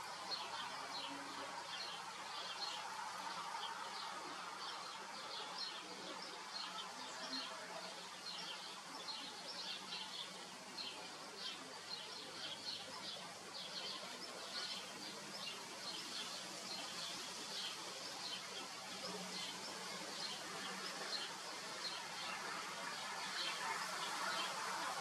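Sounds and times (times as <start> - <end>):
faint steady background noise: 0.0 - 25.0.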